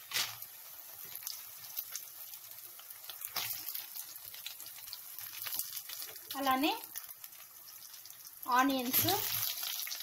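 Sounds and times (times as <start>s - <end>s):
small crackles: 0.0s - 10.0s
spices sizzling in hot oil: 0.0s - 10.0s.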